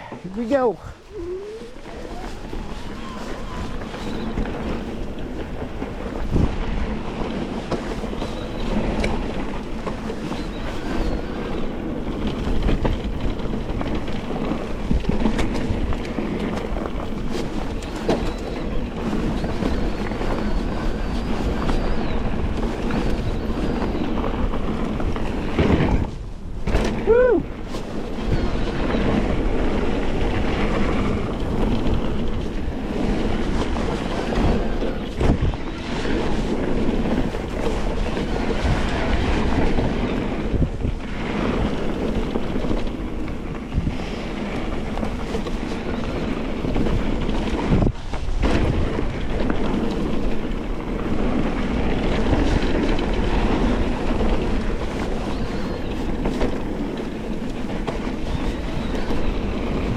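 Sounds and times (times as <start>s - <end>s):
steady rumble: 0.0s - 59.9s
wind rushing over microphone: 0.0s - 59.9s.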